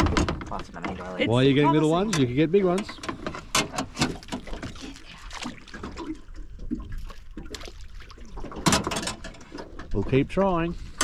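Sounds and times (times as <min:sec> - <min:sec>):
water dripping and splashing: 0:01.5 - 0:11.0.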